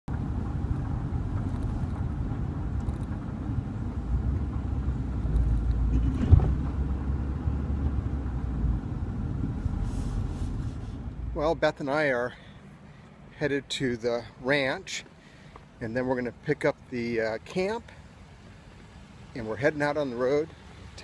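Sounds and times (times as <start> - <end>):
engine and road noise rumble: 0.0 - 21.0.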